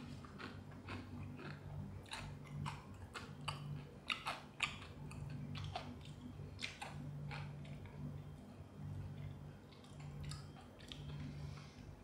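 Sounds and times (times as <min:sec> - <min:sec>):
chewing crispy fried chicken: 0:00.0 - 0:12.0
steady low hum: 0:00.0 - 0:12.0.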